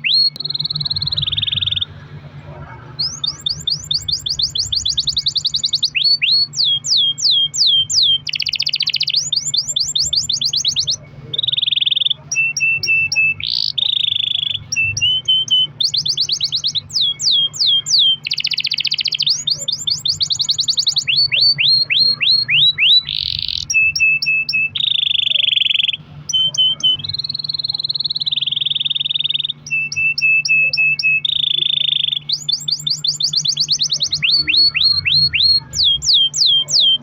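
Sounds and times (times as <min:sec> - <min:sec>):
canary singing: 0:00.0 - 0:37.0.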